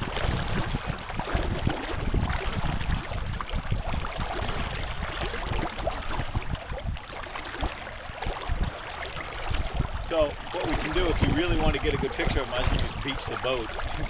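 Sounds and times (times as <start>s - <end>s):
water washing against boat: 0.0s - 14.0s
wind buffeting microphone: 0.0s - 14.0s.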